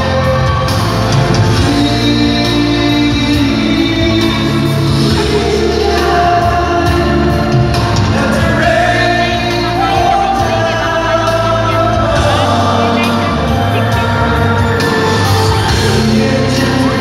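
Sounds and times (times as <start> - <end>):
loud backing track: 0.0 - 17.0
singers singing pop song: 0.0 - 17.0.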